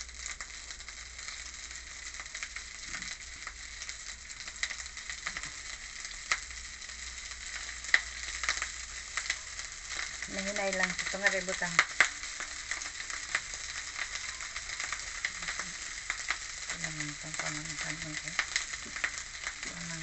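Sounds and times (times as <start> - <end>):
oil crackles and pops: 0.0 - 20.0
rice and garlic sizzling: 0.0 - 20.0.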